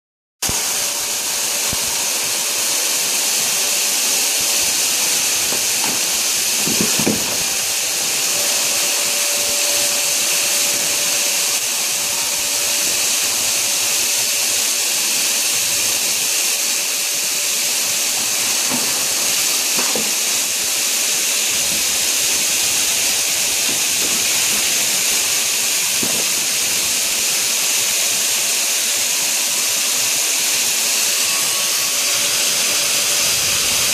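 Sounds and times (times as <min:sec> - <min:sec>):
garden hose spraying water: 0:00.4 - 0:33.9.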